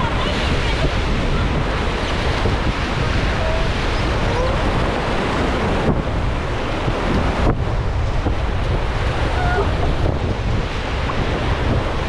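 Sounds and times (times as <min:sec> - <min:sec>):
whitewater rapids rushing: 0:00.0 - 0:12.0
wind buffeting microphone: 0:00.0 - 0:12.0.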